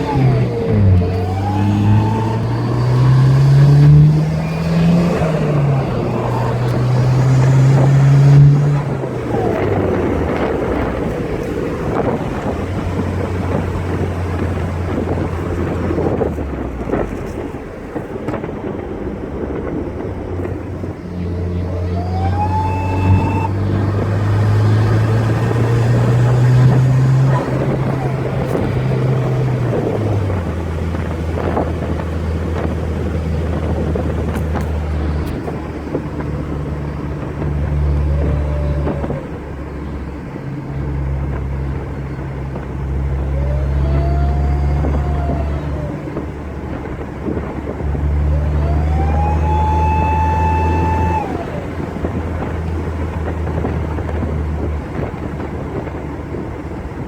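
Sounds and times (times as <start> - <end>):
car engine pulling under load: 0.0 - 57.0
turbocharger whine: 0.0 - 57.0.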